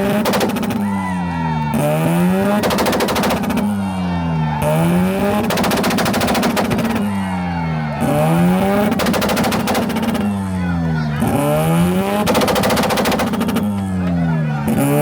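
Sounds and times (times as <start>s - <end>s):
exhaust popping and banging: 0.0s - 0.9s, 1.9s - 3.9s, 4.5s - 15.0s
car engine revving: 0.0s - 15.0s.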